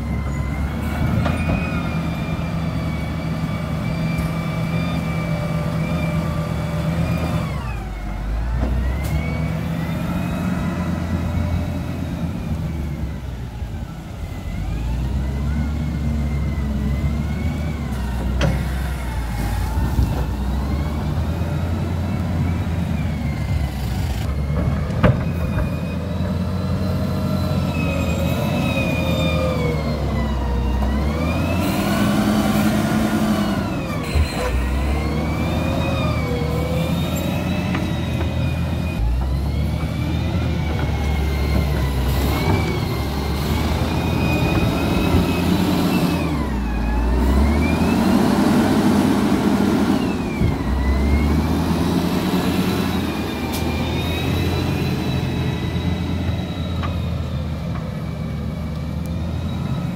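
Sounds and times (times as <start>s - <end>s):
loader diesel engine and hydraulics: 0.0s - 59.9s.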